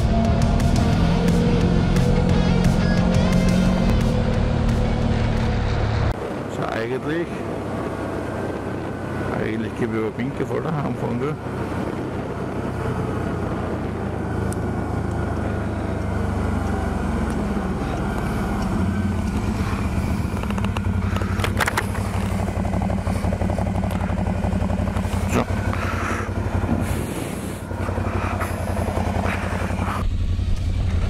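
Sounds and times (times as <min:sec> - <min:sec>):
quad bike engine running: 0:00.0 - 0:06.2, 0:07.3 - 0:31.0.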